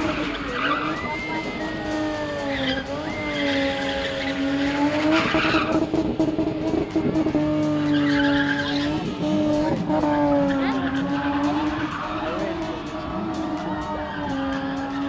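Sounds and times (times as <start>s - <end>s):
car engine at high revs: 0.0s - 15.0s
tyres skidding on tarmac: 0.0s - 15.0s.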